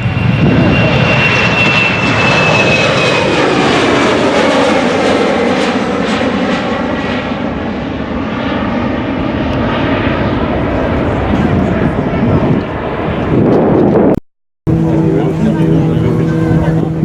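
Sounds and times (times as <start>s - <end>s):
airplane engine flying past: 0.0s - 17.0s.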